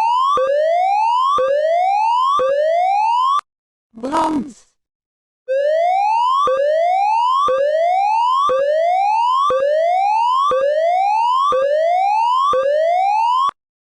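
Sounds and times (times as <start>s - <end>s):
rising electronic fire alarm tone: 0.0s - 3.4s, 5.5s - 13.6s.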